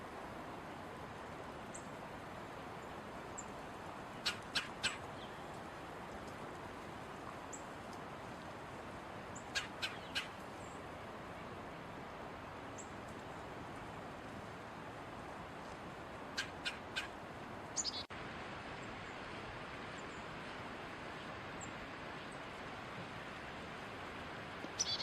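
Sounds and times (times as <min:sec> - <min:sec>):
outdoor background: 0:00.0 - 0:25.0.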